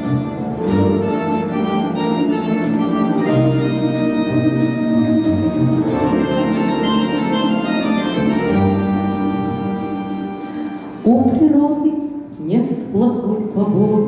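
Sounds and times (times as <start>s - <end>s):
organ-like keyboard chords: 0.0s - 12.4s
slow bass line: 0.0s - 14.0s.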